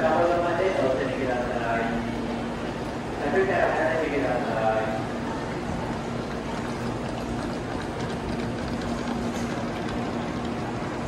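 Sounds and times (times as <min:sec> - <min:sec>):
low steady hum: 0:00.0 - 0:11.0
rushing station ambience: 0:00.0 - 0:11.0.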